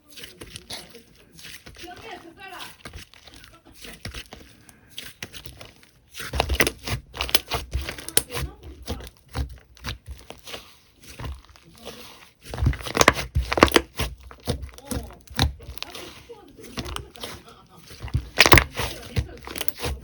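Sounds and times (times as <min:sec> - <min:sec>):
slime squishing by hand: 0:00.0 - 0:20.0.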